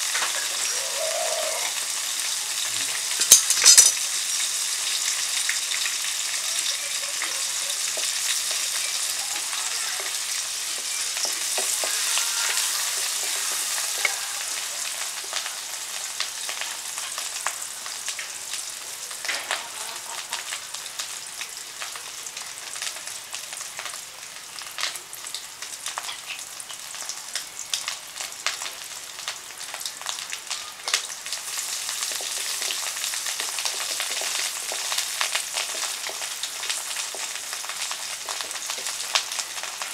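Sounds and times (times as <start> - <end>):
paste sizzling in oil: 0.0 - 39.9.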